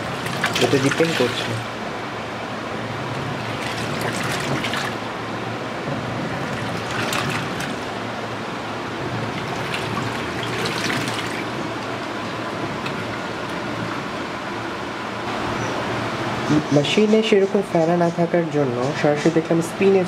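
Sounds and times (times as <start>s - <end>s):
water swishing in washing machine: 0.0s - 17.5s
low steady hum: 0.0s - 20.0s.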